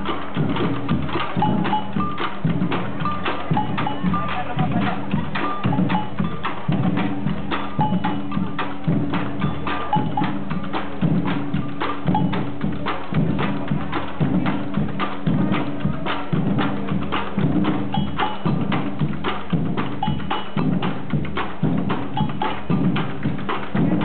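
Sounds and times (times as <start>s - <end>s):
music with wood-block clicks: 0.0s - 24.0s.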